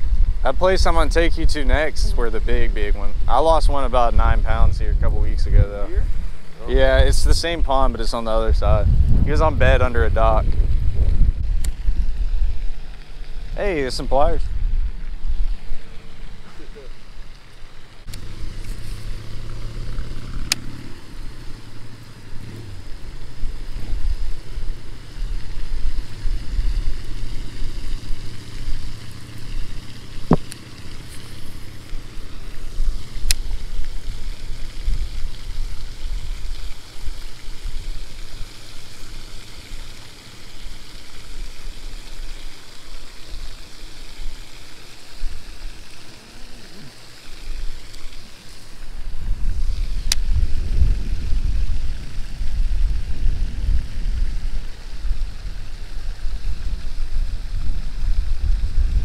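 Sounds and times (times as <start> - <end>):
wind buffeting microphone: 0.0 - 40.0, 48.7 - 59.0.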